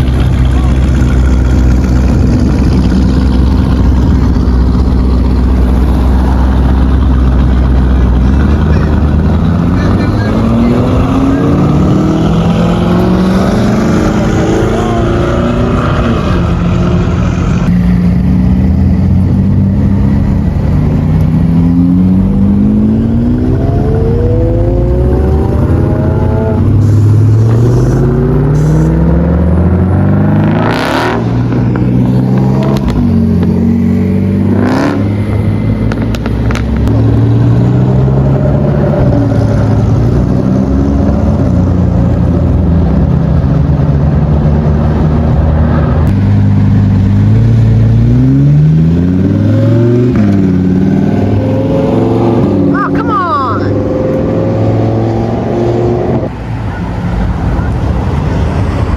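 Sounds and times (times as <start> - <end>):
car engines accelerating hard: 0.0 - 58.9.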